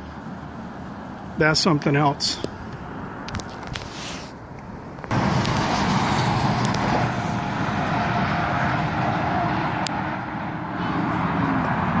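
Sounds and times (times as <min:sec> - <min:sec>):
highway traffic rushing by: 0:00.0 - 0:12.0.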